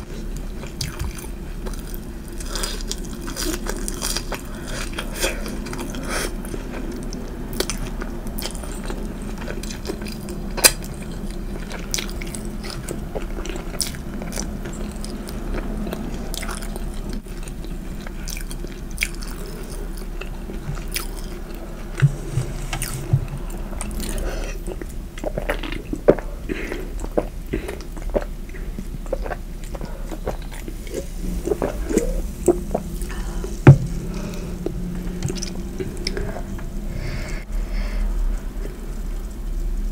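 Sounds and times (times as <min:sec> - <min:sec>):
chewing and biting food: 0:00.1 - 0:22.1, 0:22.8 - 0:36.6.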